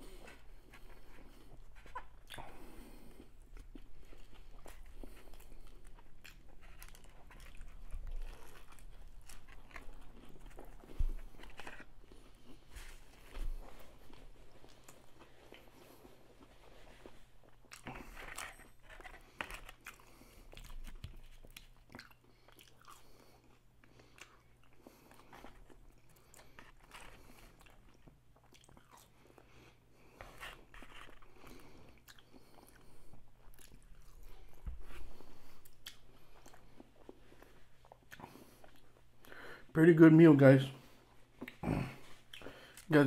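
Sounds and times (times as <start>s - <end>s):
person chewing crunchy fries: 0.0s - 39.4s, 41.3s - 43.0s.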